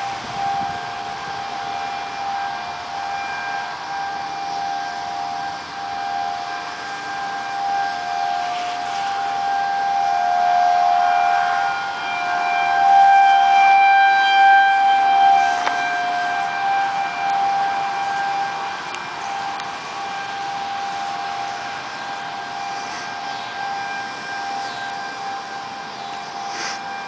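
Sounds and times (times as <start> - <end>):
tornado warning sirens: 0.0 - 27.0.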